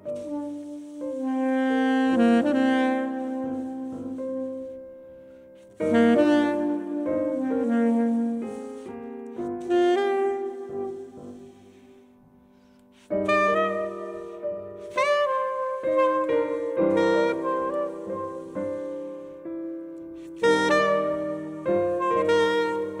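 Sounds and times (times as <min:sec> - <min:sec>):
grand piano: 0:00.0 - 0:23.0
soprano saxophone: 0:00.0 - 0:23.0.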